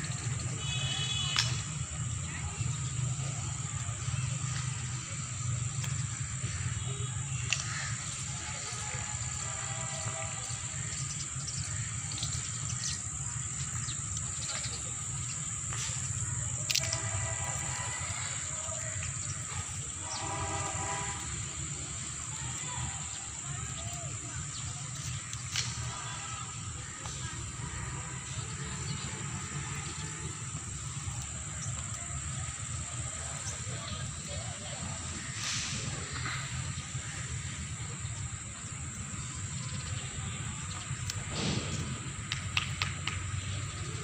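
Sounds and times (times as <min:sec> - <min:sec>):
high-pitched insect drone: 0:00.0 - 0:41.1
continuous low rumble: 0:00.0 - 0:44.0
steady high hiss: 0:00.0 - 0:44.0.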